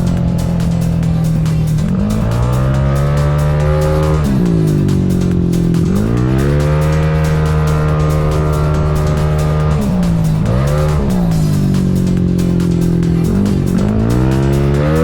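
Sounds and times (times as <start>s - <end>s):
music: 0.0s - 15.0s
scooter engine revving hard: 0.0s - 15.0s.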